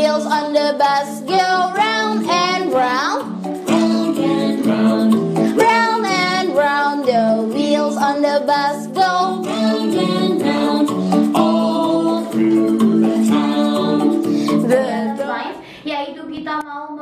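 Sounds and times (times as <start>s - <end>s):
plucked string accompaniment: 0.0s - 15.4s
person singing: 0.0s - 15.6s.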